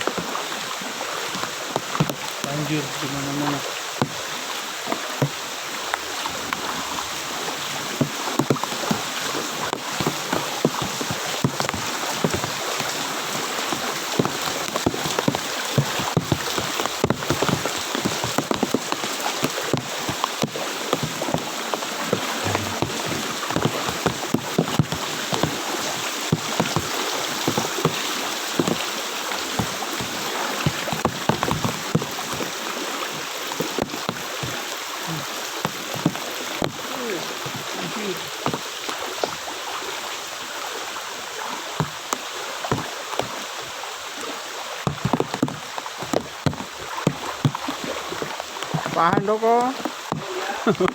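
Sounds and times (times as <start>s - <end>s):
water sloshing and splashing: 0.0s - 50.9s.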